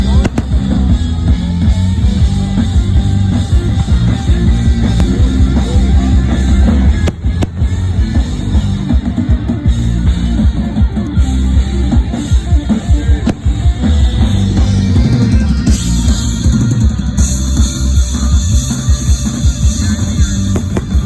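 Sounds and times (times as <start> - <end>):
drum kit playing: 0.0 - 21.0
loud rock music: 0.0 - 21.0.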